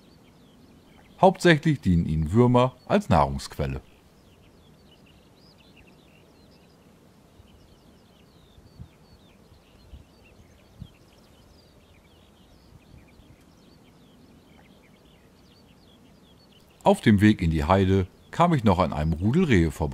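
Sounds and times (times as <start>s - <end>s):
small birds twittering: 0.0s - 19.9s.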